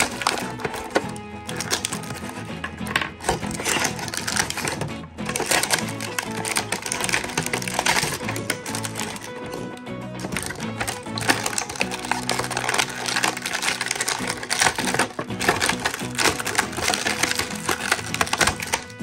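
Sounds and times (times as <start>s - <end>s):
background music: 0.0s - 19.0s
plastic packaging crinkling: 0.0s - 19.0s.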